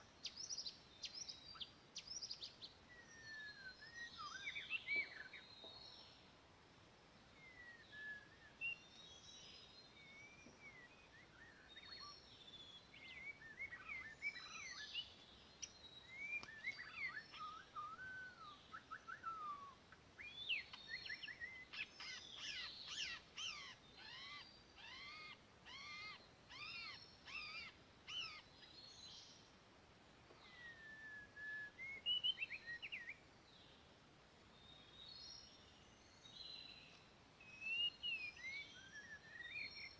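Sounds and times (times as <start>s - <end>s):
bird singing whistled phrases: 0.2s - 5.8s, 7.4s - 9.4s, 10.0s - 28.4s, 30.4s - 33.2s, 36.1s - 39.9s.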